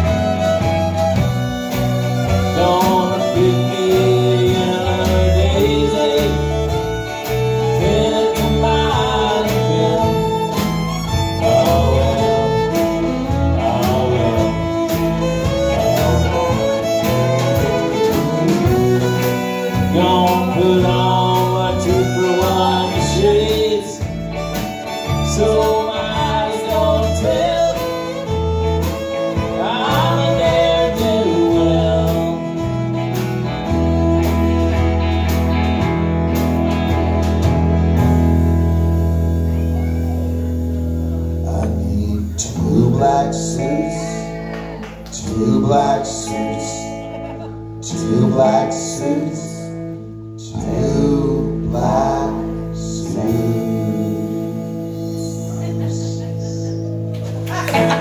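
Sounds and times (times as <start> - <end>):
person singing: 0.0 - 34.4, 41.1 - 58.0
fiddle: 0.0 - 48.0
drums: 0.0 - 58.0
electric bass: 0.0 - 58.0
electric guitar: 0.0 - 58.0.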